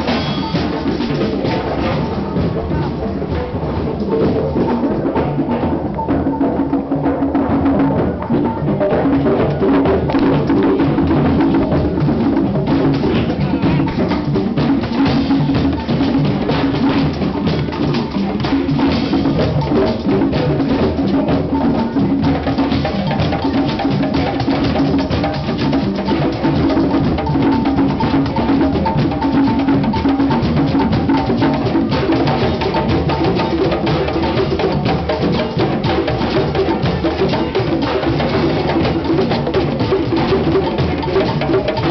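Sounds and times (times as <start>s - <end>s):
hand drums playing: 0.0s - 41.9s.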